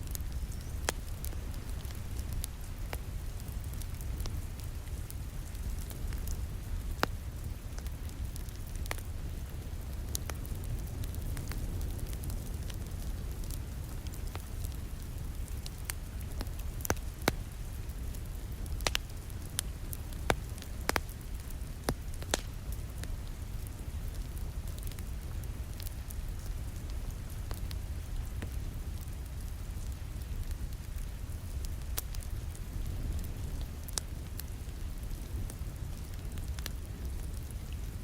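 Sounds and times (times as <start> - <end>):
rain pattering on a window: 0.0 - 38.0
wood fire crackling and popping: 0.0 - 38.0.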